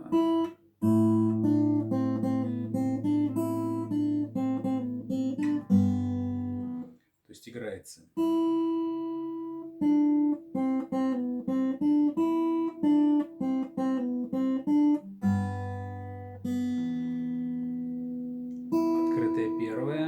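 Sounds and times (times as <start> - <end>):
acoustic guitar picking a melody: 0.0 - 7.0, 8.2 - 20.0.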